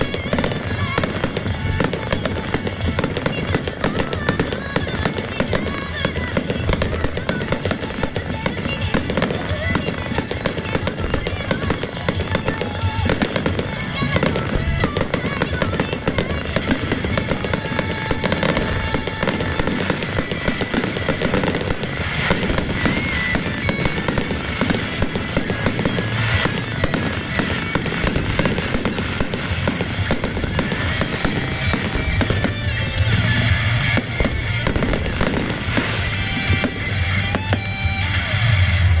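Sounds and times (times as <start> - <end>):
fireworks crackling: 0.0 - 39.0
music playing: 0.0 - 39.0.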